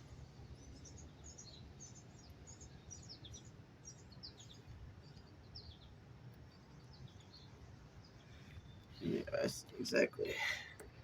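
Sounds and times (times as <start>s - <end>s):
small bird chirps: 0.4s - 9.8s.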